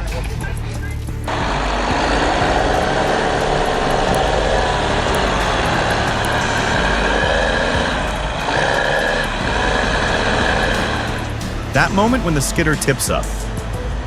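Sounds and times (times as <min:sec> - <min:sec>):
heavy vehicle engine running: 0:00.0 - 0:14.0.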